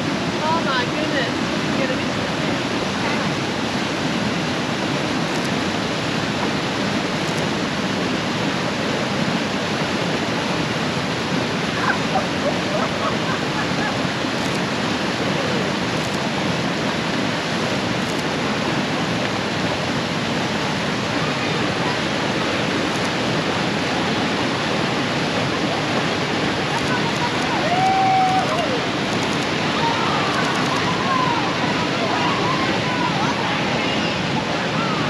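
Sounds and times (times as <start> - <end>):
whitewater rushing: 0.0 - 35.0.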